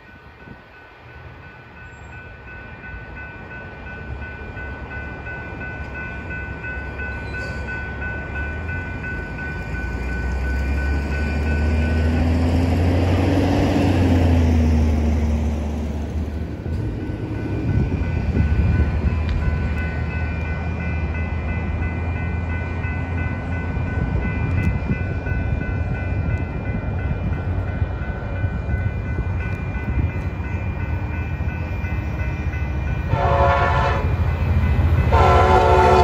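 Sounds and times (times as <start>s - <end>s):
passing train whine: 0.0s - 36.0s
train locomotive engine rumble: 0.0s - 36.0s.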